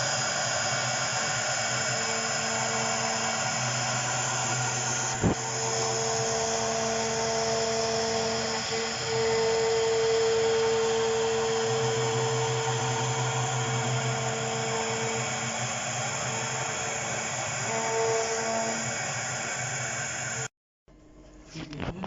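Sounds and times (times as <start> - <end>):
low hum and cutting noise: 0.0 - 20.5
router spindle whine: 0.0 - 20.5.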